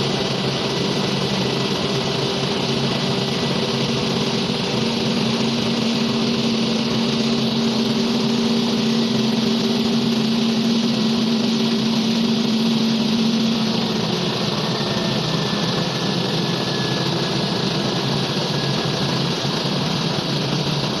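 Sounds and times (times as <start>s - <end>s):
air compressor running: 0.0s - 21.0s.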